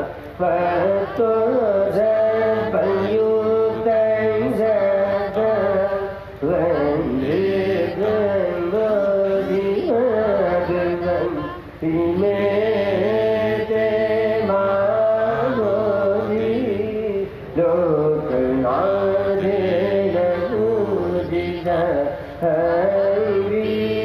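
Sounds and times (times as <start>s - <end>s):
monks chanting: 0.0s - 16.9s, 17.6s - 24.0s.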